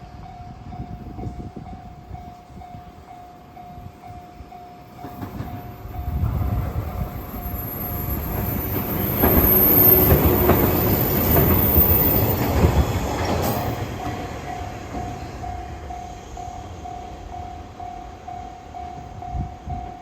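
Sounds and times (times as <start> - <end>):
train passing with wheel beats: 0.0 - 20.0.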